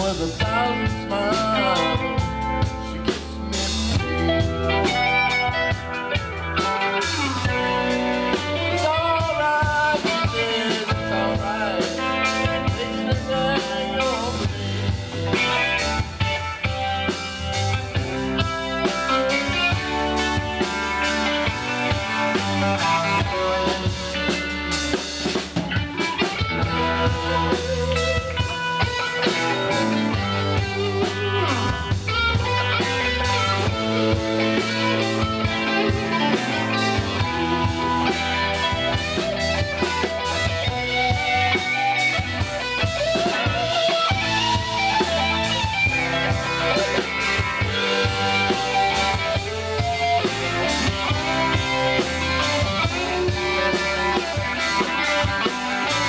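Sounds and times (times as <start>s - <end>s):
electric guitar bending pitch: 0.0s - 56.0s
live rock band playing: 0.0s - 56.0s.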